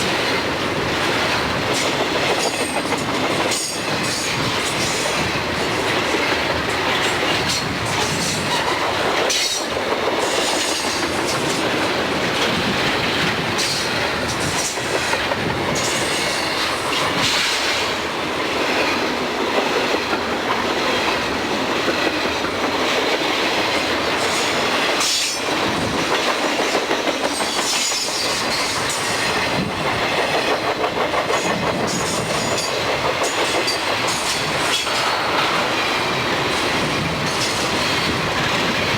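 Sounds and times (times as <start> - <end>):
train wheels clacking: 0.0 - 38.9.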